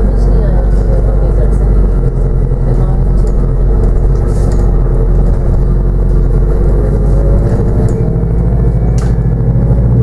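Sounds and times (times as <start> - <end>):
bus drivetrain hum: 0.0 - 10.0
road rumble: 0.0 - 10.0.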